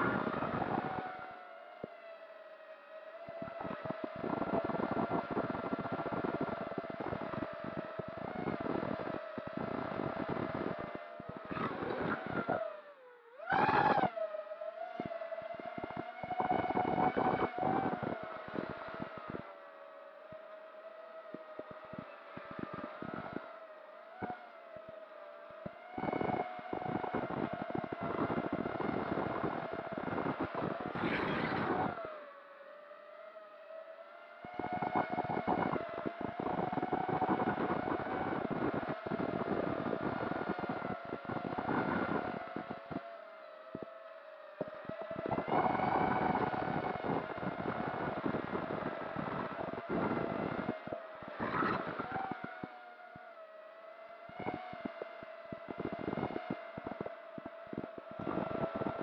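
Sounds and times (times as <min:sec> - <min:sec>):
drone motors whining: 0:00.0 - 0:59.0
wind crackling on microphone: 0:00.0 - 0:59.0.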